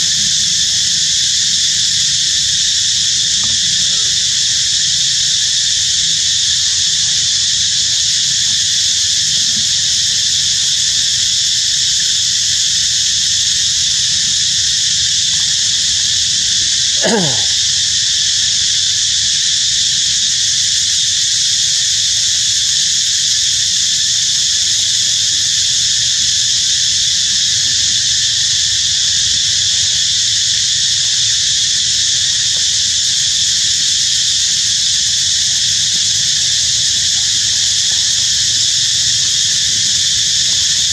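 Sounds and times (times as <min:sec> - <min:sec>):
insect chorus droning: 0:00.0 - 0:40.9.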